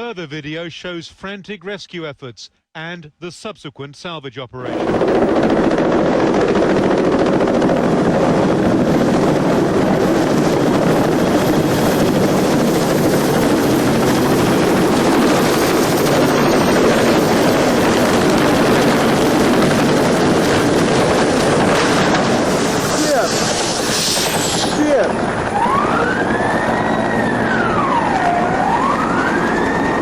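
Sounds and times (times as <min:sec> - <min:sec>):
helicopter engine and rotor: 0:04.7 - 0:30.0.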